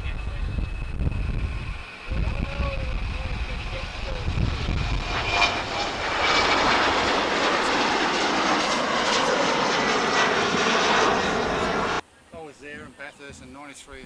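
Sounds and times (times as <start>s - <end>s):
airliner engines: 0.0s - 12.0s.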